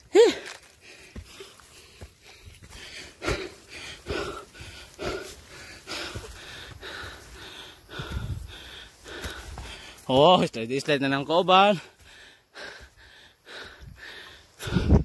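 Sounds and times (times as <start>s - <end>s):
person breathing hard: 0.0s - 10.1s, 11.7s - 15.0s.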